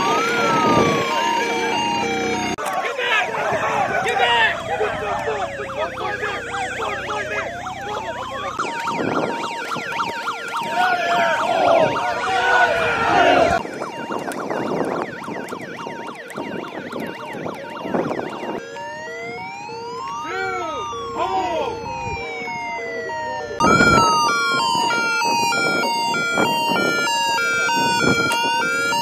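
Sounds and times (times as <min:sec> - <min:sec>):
rising siren wail: 0:00.0 - 0:29.0
warbling siren yelp: 0:00.0 - 0:29.0.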